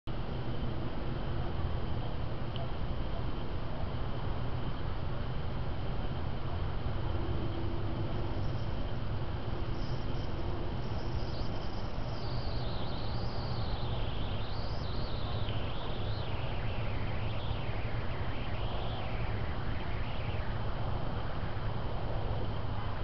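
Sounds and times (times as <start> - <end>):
electronic hum and hiss: 0.1 - 23.0.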